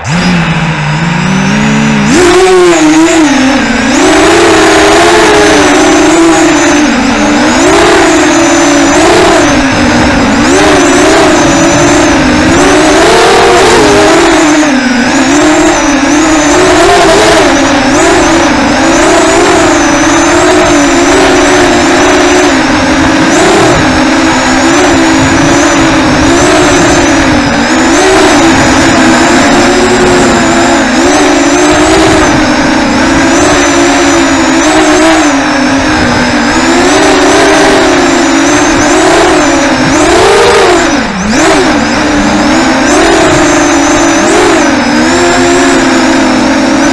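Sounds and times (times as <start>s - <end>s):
drone motors buzzing whine: 0.0s - 46.9s.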